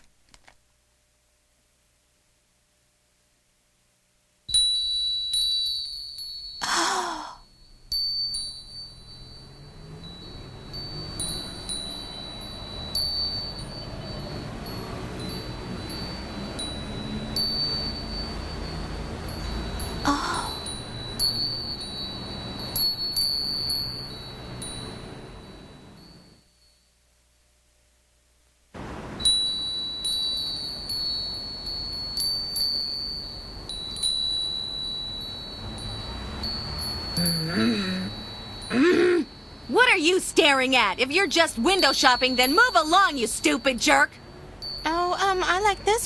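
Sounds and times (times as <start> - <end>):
glass wind chime ringing: 4.5 - 27.1, 29.2 - 46.0.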